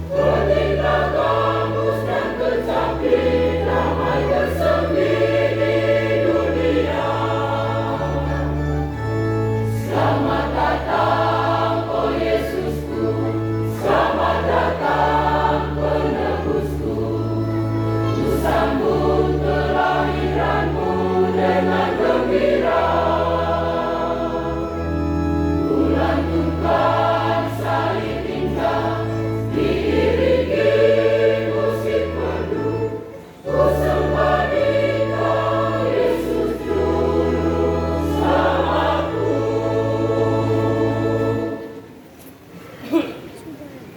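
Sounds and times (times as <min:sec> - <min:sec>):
choir singing a hymn: 0:00.0 - 0:42.2.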